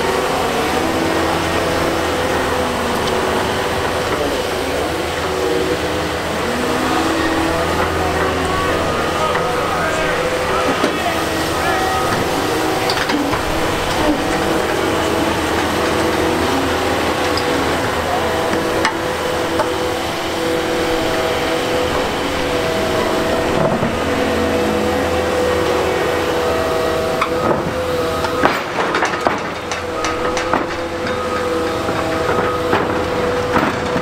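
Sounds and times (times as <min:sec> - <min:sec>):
heavy machinery engine whining: 0:00.0 - 0:34.0.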